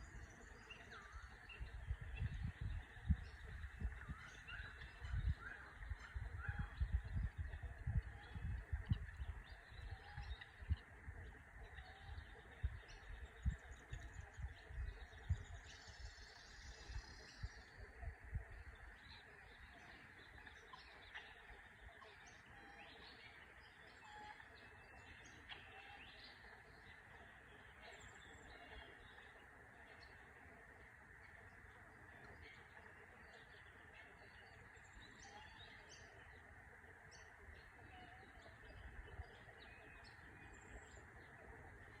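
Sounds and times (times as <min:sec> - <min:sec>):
small birds chirping and singing: 0:00.0 - 0:42.0.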